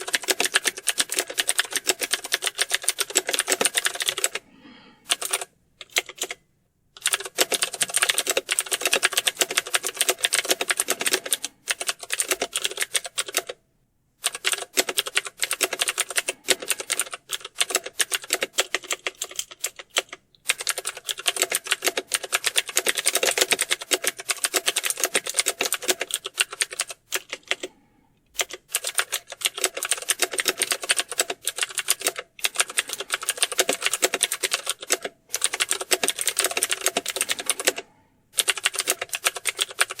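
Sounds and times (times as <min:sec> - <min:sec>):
fast keyboard typing: 0:00.0 - 0:04.4, 0:05.0 - 0:06.4, 0:07.0 - 0:13.6, 0:14.2 - 0:27.8, 0:28.4 - 0:40.0.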